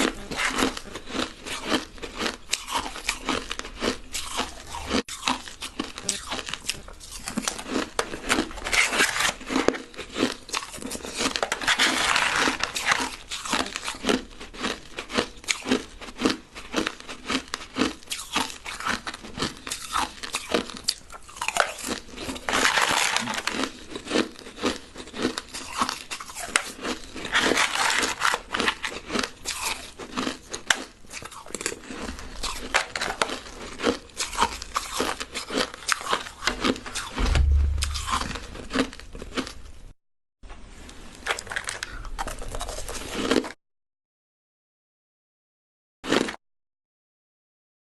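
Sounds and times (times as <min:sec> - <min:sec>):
crushed ice being chewed: 0:00.0 - 0:39.6, 0:41.2 - 0:43.6, 0:46.1 - 0:46.4.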